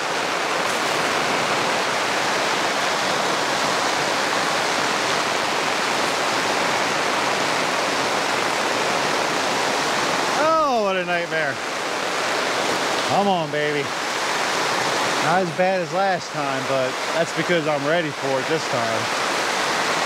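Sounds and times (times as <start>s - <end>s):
heavy rain on fabric canopy: 0.0s - 20.0s
water streaming off edges: 0.0s - 20.0s.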